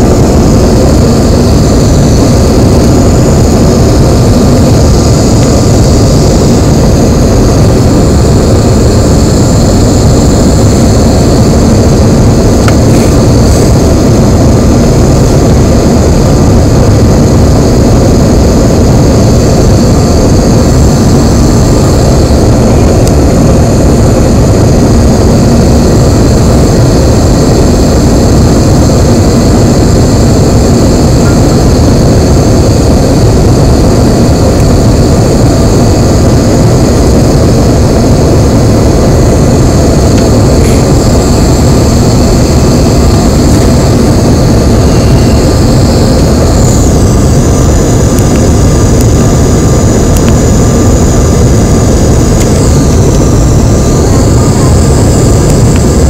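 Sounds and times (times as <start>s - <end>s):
airliner cabin engine rumble: 0.0s - 56.0s
steady high whine: 0.0s - 56.0s.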